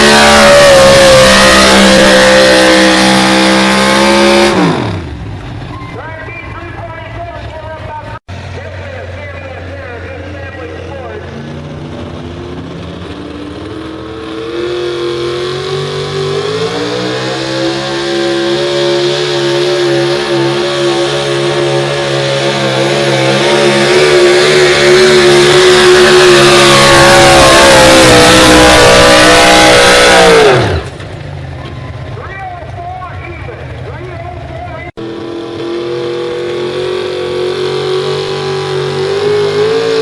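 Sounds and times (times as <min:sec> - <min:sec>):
truck engine at high revs: 0:00.0 - 0:40.0.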